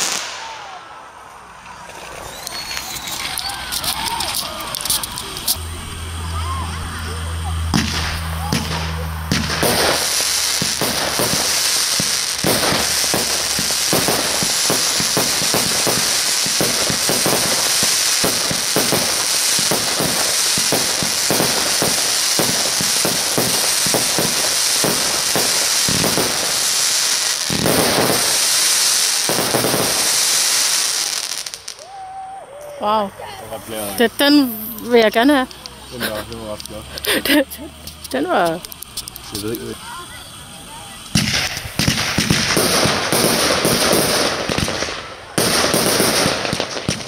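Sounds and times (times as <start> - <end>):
fireworks shots and bursts: 0.0 - 31.9, 33.6 - 47.0
fireworks crackle: 0.0 - 47.0.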